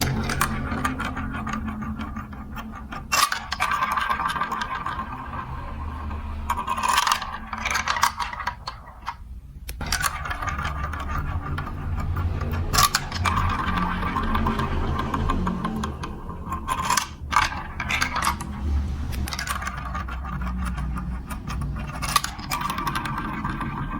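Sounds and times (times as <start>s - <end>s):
marbles rolling on plastic track: 0.0s - 9.2s, 9.8s - 23.9s.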